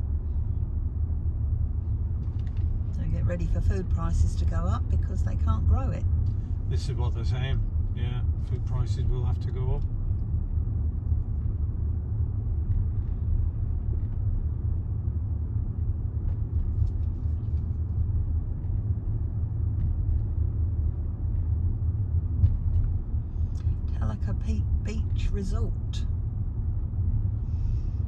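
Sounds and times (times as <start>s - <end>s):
car cabin engine and tyre rumble: 0.0s - 28.0s.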